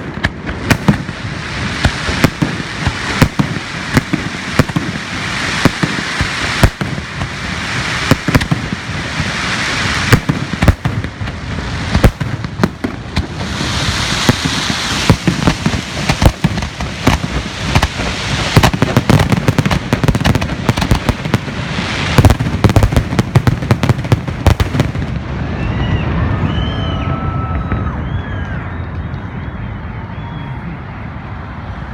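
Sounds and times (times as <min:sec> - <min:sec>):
fireworks banging and crackling: 0:00.0 - 0:29.6.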